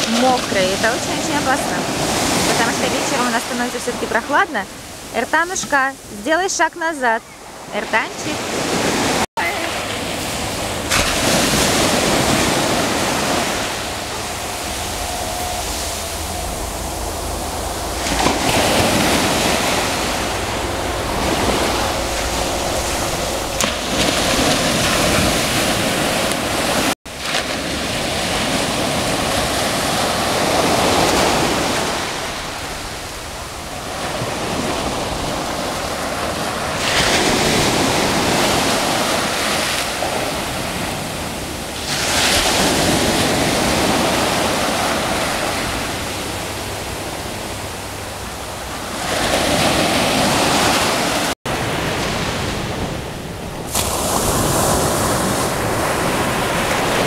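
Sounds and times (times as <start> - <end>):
surf washing onto beach: 0.0 - 6.3, 7.5 - 57.0
wind rumble on microphone: 7.2 - 57.0.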